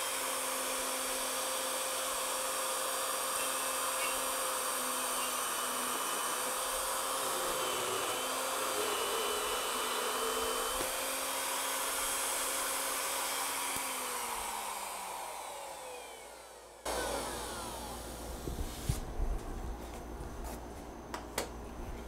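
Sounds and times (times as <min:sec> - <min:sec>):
electric router whine: 0:00.0 - 0:22.0.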